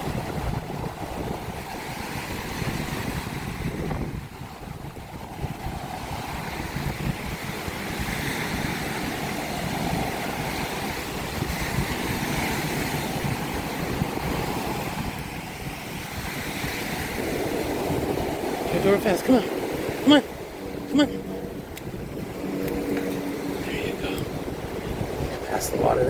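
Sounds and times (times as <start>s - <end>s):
ocean surf washing up: 0.0s - 26.0s
wind buffeting microphone: 0.0s - 26.0s.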